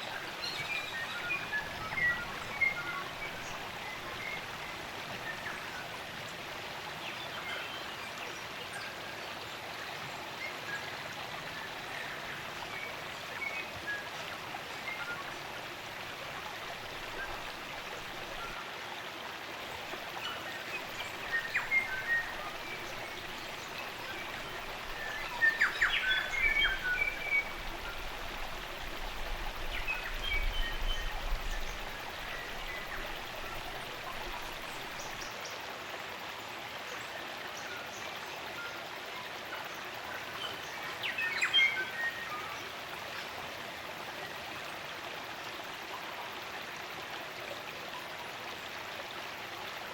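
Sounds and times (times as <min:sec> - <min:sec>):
stream running: 0:00.0 - 0:49.9.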